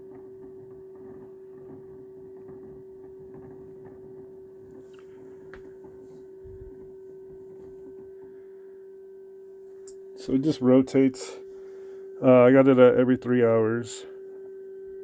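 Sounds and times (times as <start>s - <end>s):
incubator humming: 0.1s - 15.0s.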